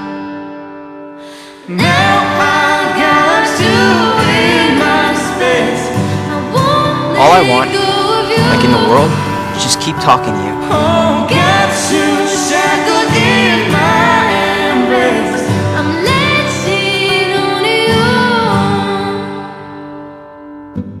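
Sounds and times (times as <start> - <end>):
acoustic pop song: 0.0 - 21.0.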